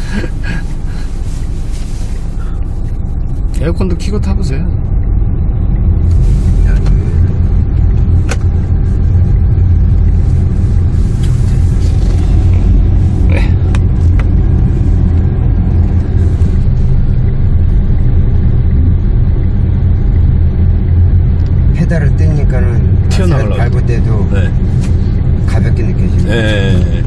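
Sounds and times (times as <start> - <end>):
car idling rumble in cabin: 0.0 - 27.0.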